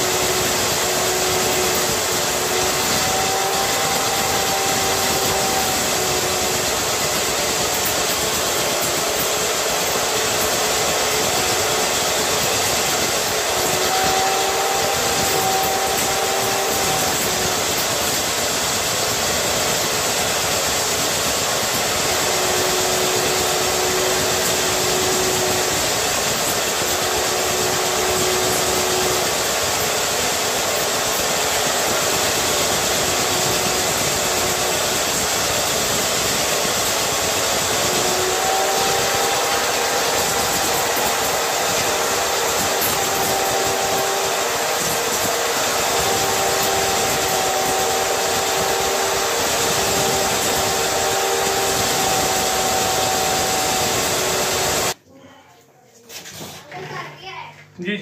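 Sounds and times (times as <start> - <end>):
core drill motor whine: 0.0 - 55.0
grinding hiss: 0.0 - 55.0.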